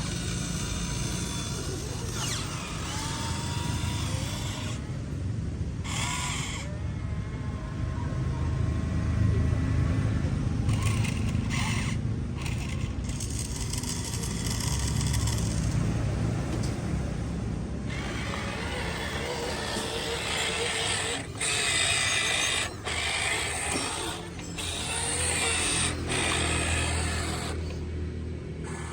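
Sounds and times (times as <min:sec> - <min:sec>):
small motors whirring: 0:00.0 - 0:08.8, 0:09.8 - 0:17.2, 0:17.8 - 0:27.9, 0:28.5 - 0:28.9.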